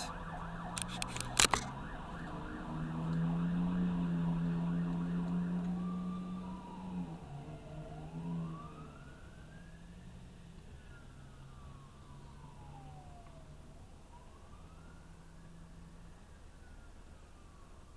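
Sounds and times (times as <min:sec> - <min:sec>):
fire truck siren wailing: 0:00.0 - 0:17.9.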